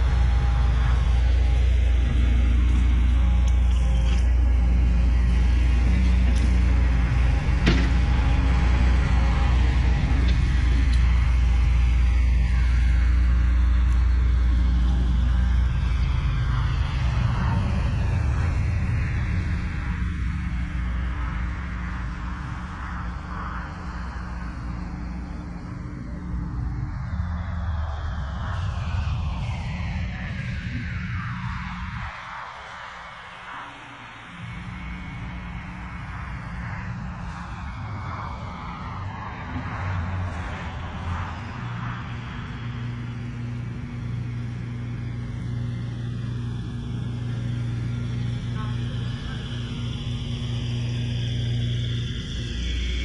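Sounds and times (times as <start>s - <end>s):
engine running at low speed: 0.0s - 53.0s.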